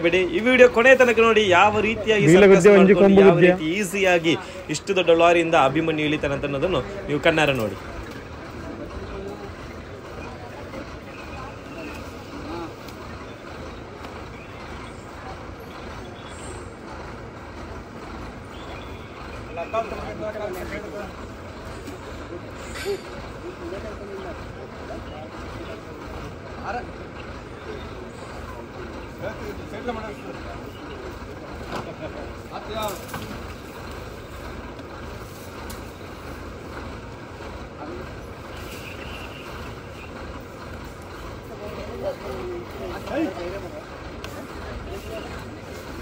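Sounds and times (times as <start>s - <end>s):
lorry engine running: 0.0s - 46.0s.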